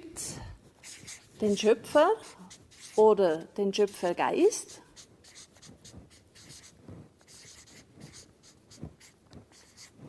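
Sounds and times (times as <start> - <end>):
marker scratching on paper: 0.7 - 10.0.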